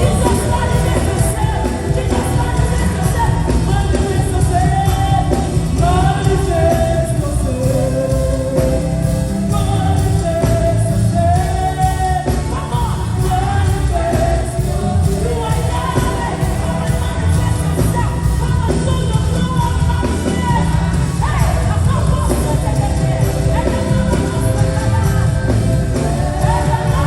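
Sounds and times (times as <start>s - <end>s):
band with heavy low end: 0.0s - 27.0s
voices singing long notes: 0.0s - 27.0s.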